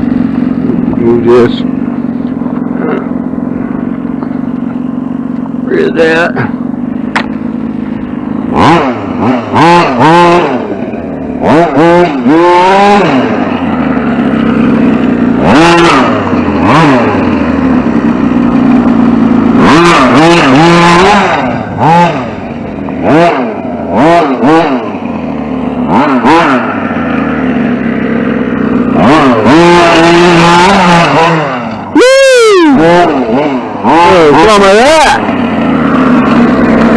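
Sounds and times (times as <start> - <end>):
rc truck motor revving: 0.0 - 36.9.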